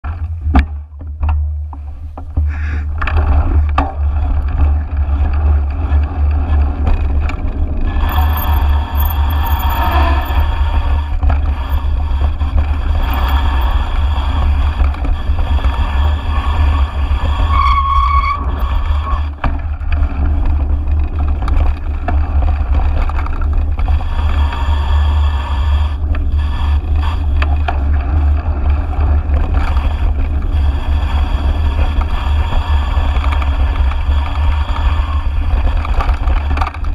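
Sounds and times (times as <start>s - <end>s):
bike rattling over rough ground: 0.0s - 36.9s
wind rumble on microphone: 0.0s - 36.9s.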